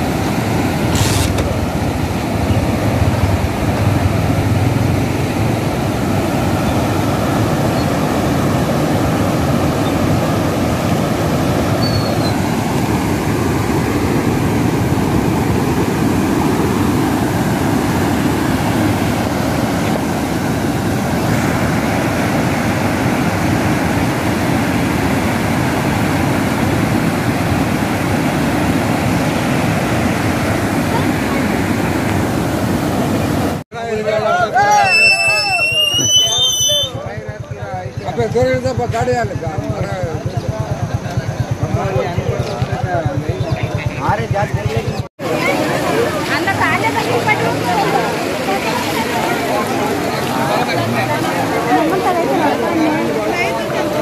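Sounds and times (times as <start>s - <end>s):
floodwater rushing over rapids: 0.0s - 37.0s, 43.7s - 54.0s.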